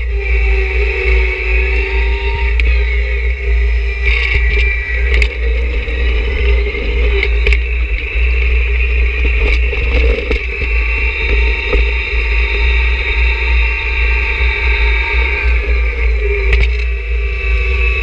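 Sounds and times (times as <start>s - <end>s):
high whine: 0.0s - 18.0s.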